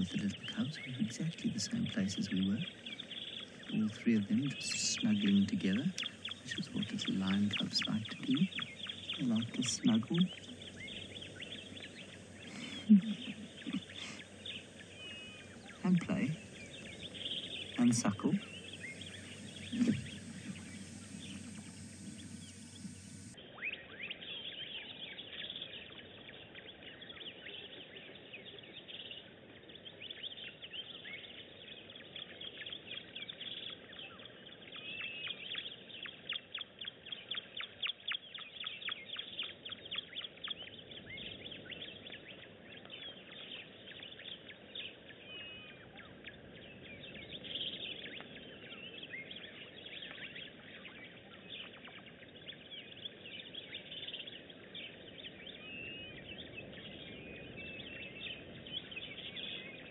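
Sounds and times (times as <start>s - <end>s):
faint outdoor hiss: 0.0s - 59.9s
wild birds chirping and calling: 0.0s - 59.9s.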